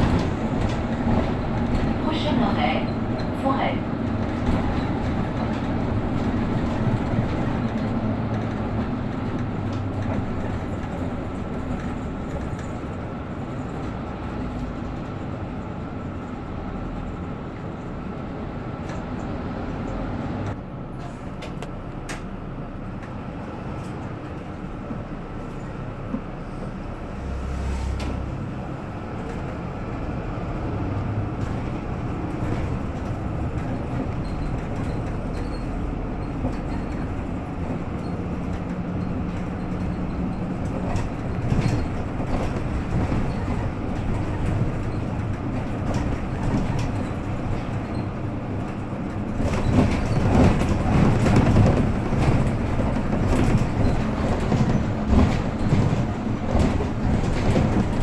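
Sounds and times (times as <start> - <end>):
bus engine running: 0.0 - 58.0
road and rattle noise: 0.0 - 58.0.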